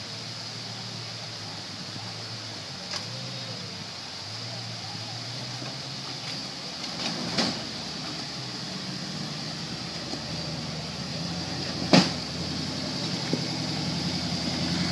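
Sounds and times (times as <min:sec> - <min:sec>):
buggy engine running at low speed: 0:00.0 - 0:14.9.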